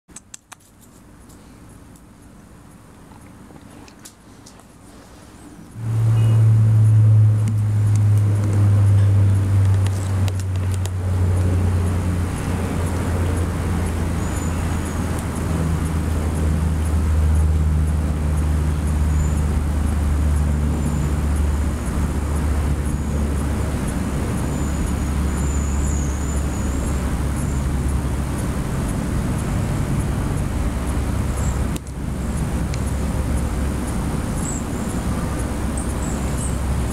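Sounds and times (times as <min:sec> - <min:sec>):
low engine hum: 0:01.1 - 0:36.9.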